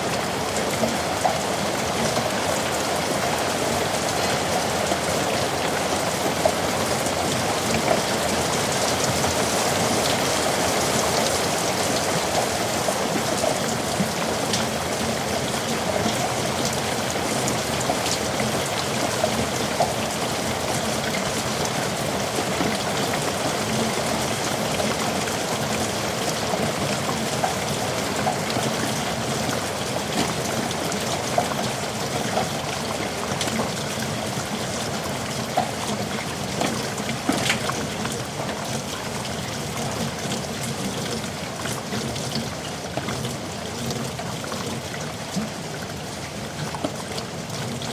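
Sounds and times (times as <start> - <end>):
heavy rain: 0.0 - 47.9
raindrops pattering on hard surfaces: 0.0 - 47.9.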